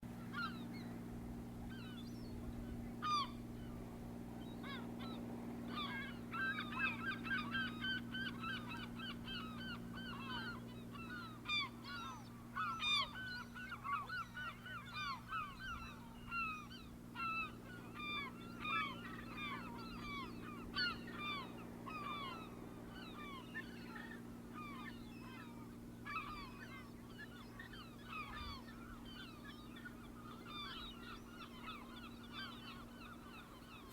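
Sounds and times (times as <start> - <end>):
steady low hum: 0.0 - 33.9
flock of birds calling: 0.2 - 1.0, 1.7 - 33.9.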